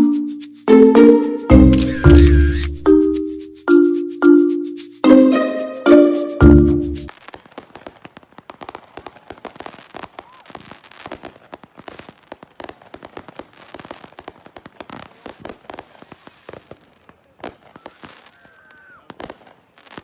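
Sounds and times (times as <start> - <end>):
fireworks crackling and popping: 0.0 - 3.6, 7.0 - 20.0.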